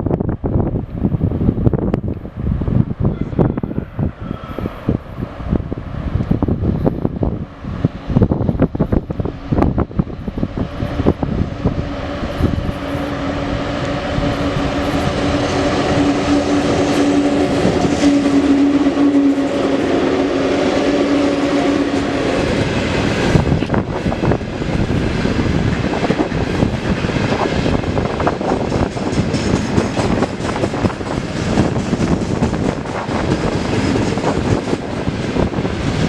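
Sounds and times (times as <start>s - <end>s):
locomotive hum: 0.3s - 36.0s.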